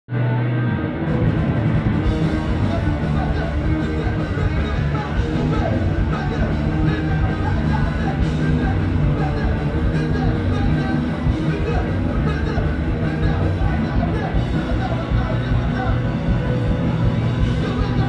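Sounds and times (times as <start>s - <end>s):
drums: 0.1s - 18.0s
electric guitars: 0.1s - 18.0s
punk rock band playing live: 0.1s - 18.0s.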